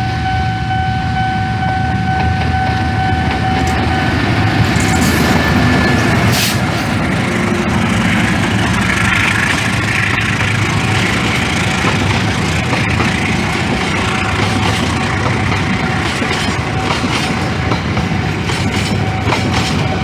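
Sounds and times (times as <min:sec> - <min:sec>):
diesel locomotive engine: 0:00.0 - 0:20.0
train wheels rumbling on rails: 0:00.0 - 0:20.0.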